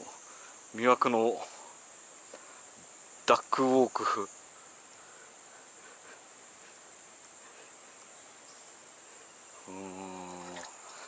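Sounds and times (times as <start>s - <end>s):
faint background hiss: 0.0s - 11.0s
insects chorus: 0.0s - 11.0s.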